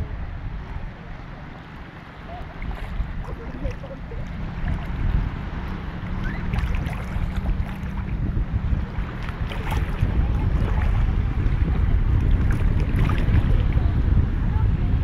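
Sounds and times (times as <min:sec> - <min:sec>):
shallow seawater sloshing: 0:00.0 - 0:15.0
wind buffeting microphone: 0:00.0 - 0:15.0.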